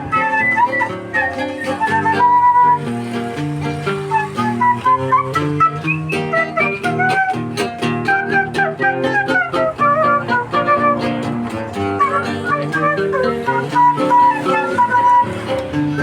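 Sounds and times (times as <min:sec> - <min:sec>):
lead melody line: 0:00.0 - 0:16.0
plucked guitars rhythm: 0:00.0 - 0:16.0.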